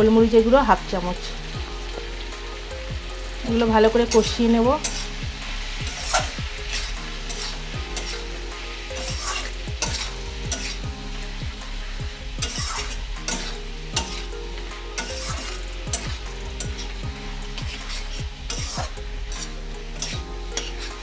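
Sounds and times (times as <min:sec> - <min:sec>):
frying sizzle: 0:00.0 - 0:21.0
metal spatula scraping a pan: 0:03.3 - 0:21.0.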